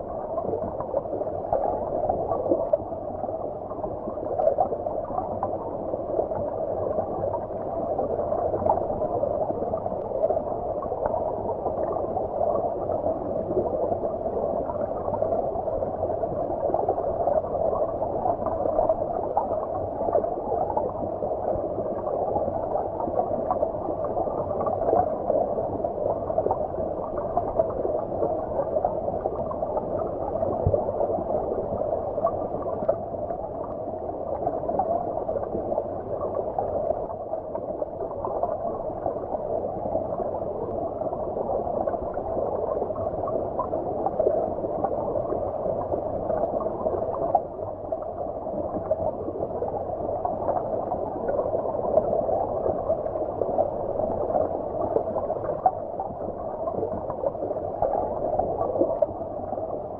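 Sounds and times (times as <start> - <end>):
muffled underwater stream rush: 0.0 - 59.9.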